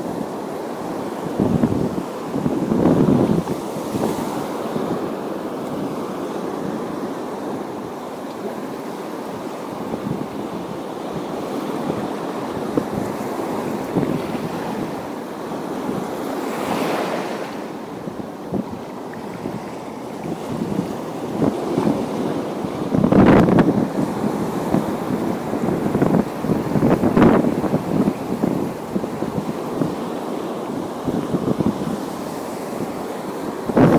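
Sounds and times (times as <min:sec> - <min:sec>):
waves washing against shore: 0:00.0 - 0:33.9
wind buffeting microphone: 0:00.0 - 0:33.9.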